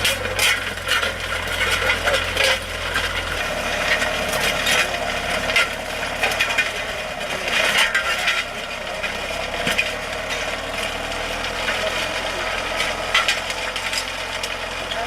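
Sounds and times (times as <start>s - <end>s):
tractor engine hum: 0.0s - 15.0s.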